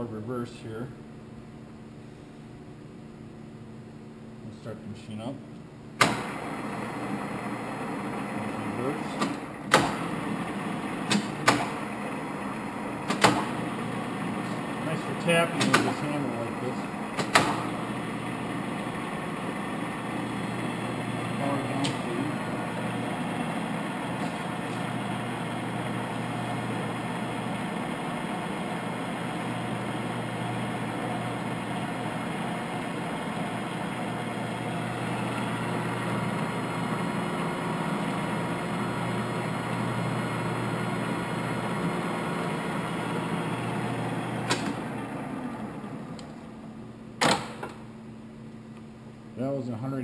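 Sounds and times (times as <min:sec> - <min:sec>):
drill press motor humming: 0:05.9 - 0:48.0.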